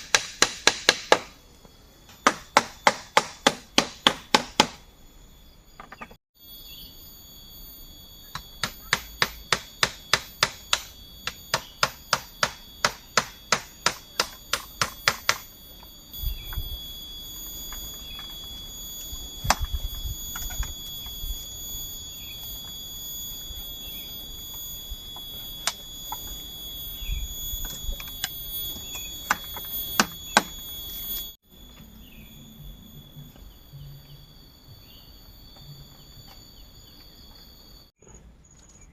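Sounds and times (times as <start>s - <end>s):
high insect drone: 0.0s - 38.8s.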